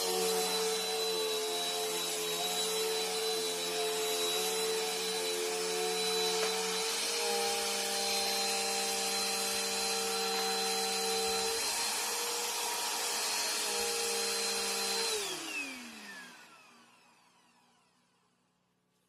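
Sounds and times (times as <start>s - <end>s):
vacuum cleaner motor whine: 0.0s - 18.2s.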